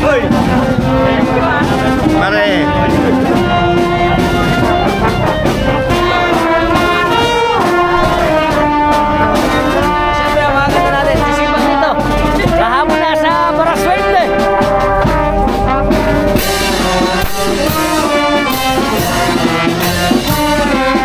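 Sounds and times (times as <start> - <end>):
brass band playing: 0.0 - 21.0.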